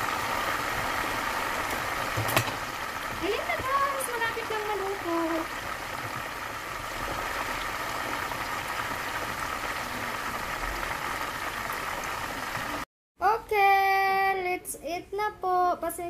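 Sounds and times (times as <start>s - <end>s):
chicken sizzling in hot oil: 0.0s - 12.9s.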